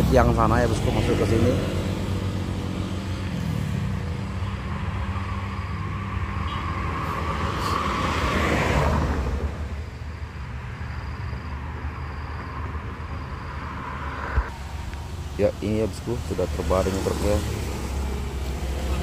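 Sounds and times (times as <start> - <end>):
steady engine hum: 0.0 - 19.0
vehicle passing by: 0.0 - 19.0.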